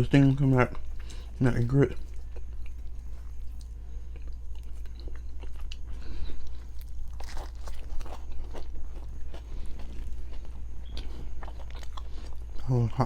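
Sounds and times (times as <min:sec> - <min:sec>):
person chewing food: 0:00.6 - 0:13.0.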